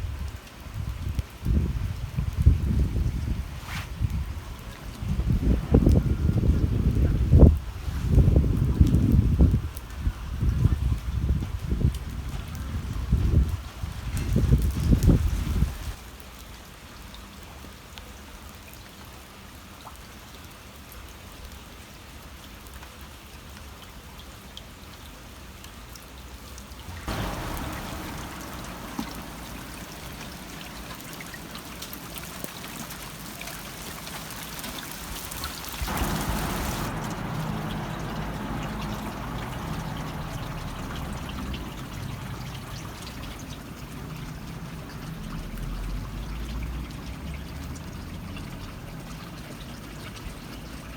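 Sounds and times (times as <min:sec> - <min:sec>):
water trickling and babbling: 0:00.0 - 0:50.9.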